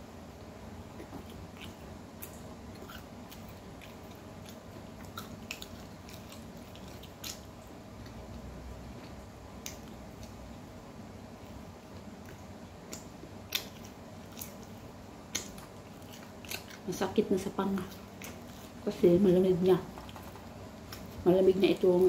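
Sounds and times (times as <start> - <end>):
chewing and mouth clicks: 0.9 - 10.6, 11.5 - 18.8, 19.9 - 21.2.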